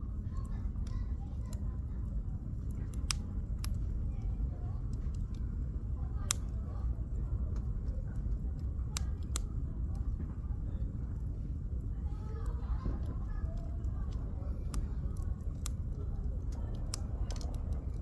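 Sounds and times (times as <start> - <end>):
campfire crackling and popping: 0.2 - 18.0.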